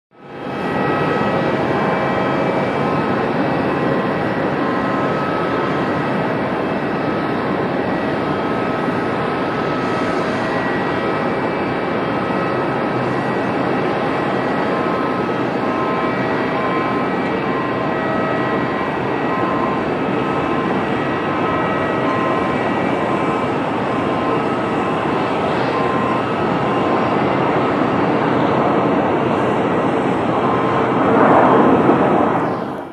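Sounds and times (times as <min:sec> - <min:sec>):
jet engines rushing and whining: 0:00.1 - 0:32.9.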